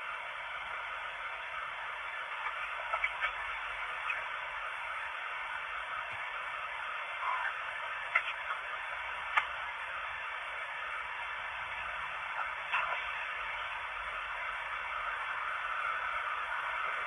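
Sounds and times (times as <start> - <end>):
recorder speaker hiss: 0.0 - 17.0.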